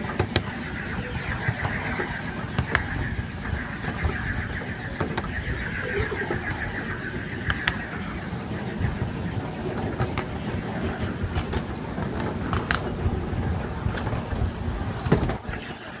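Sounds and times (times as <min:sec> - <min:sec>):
miniature train rumbling on track: 0:00.0 - 0:16.0
wheels clicking over rail joints: 0:00.0 - 0:16.0.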